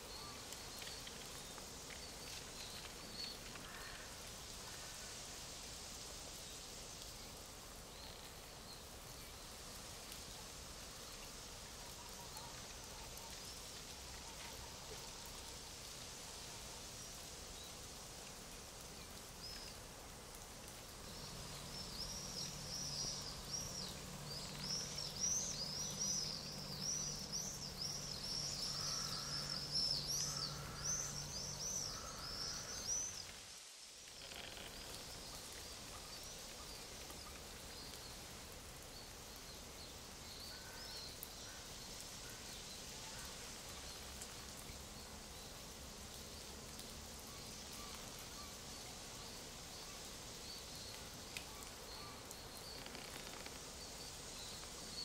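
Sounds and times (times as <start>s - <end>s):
leaves rustling in breeze: 0.0s - 55.0s.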